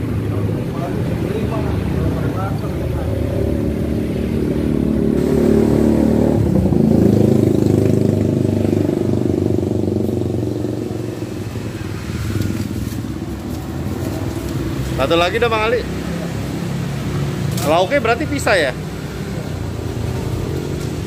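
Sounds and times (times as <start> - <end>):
motorcycle passing by: 0.3 - 21.0.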